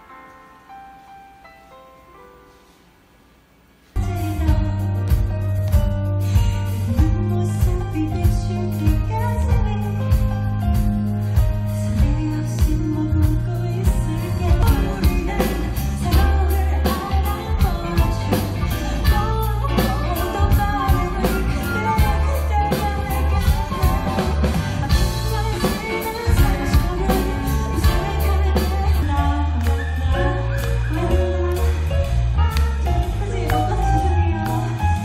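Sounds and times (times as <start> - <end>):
drums: 3.8 - 35.0
bass: 4.0 - 35.0
electric guitar: 4.0 - 35.0
woman singing: 4.0 - 35.0.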